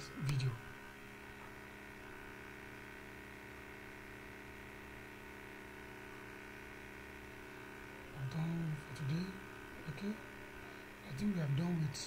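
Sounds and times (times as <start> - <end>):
faint electrical hum with hiss: 0.0 - 12.0.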